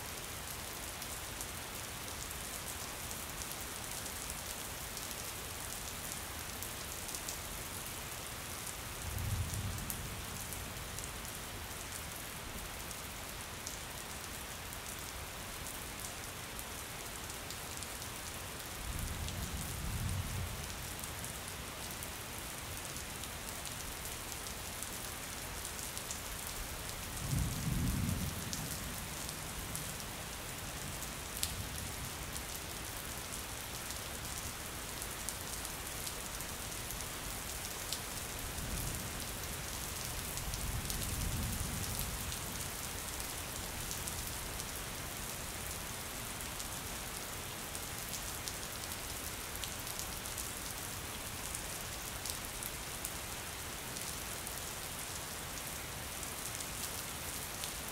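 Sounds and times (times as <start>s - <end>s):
rain on a window: 0.0s - 57.9s.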